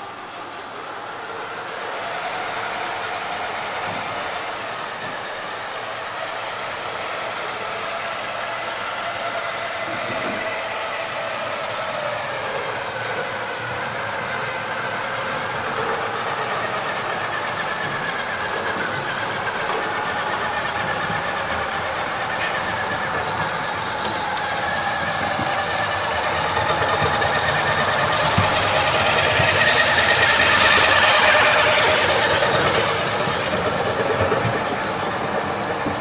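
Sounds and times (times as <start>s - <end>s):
toy truck whining drive: 0.0s - 36.0s.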